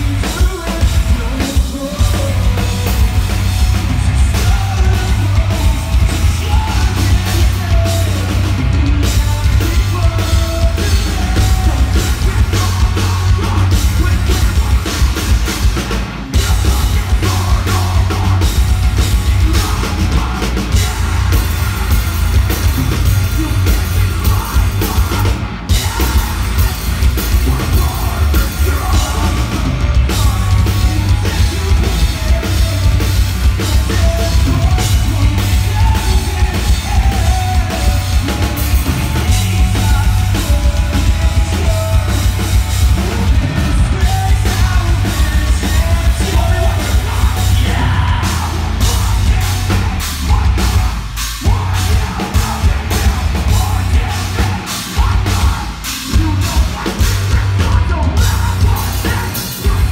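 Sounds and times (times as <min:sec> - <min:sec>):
bass guitar: 0:00.0 - 0:59.9
distorted guitars: 0:00.0 - 0:59.9
pounding drums: 0:00.0 - 0:59.9.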